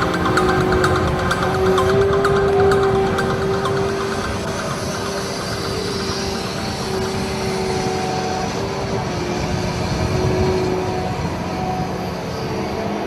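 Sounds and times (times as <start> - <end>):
constant whine: 0.0 - 13.0.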